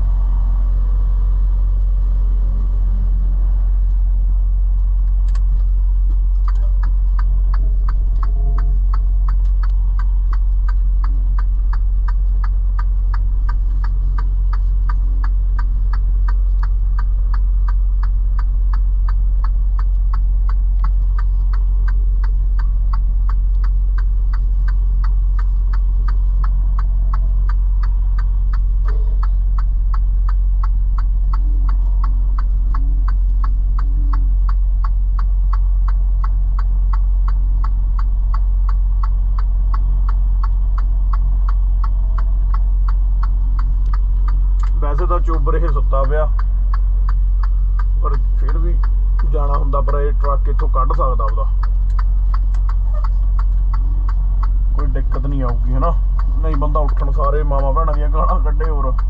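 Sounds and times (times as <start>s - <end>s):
diesel engine droning: 0.0s - 59.0s
flasher relay ticking: 6.1s - 59.0s.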